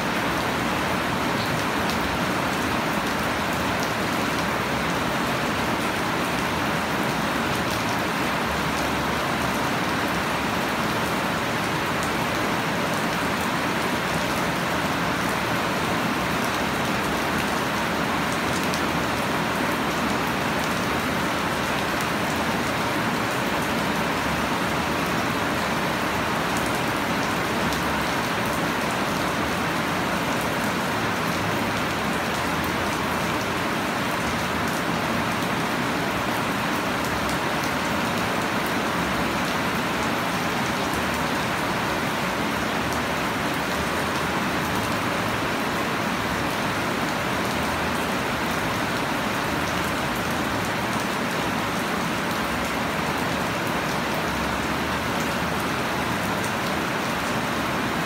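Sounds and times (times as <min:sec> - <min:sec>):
heavy rain on plants: 0:00.0 - 0:58.0.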